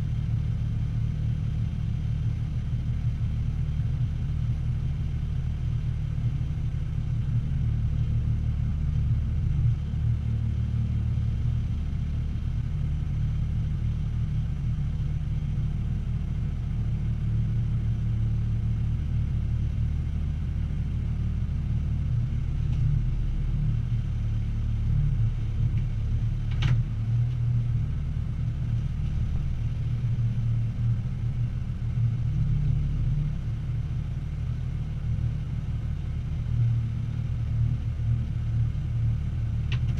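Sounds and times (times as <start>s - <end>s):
truck engine low rumble: 0.0s - 39.9s.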